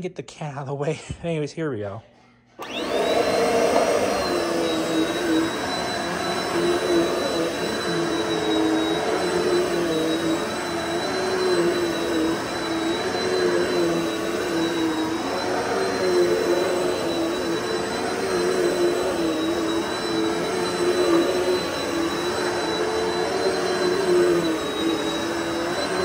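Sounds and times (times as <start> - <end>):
vacuum cleaner motor whine: 2.6 - 26.0.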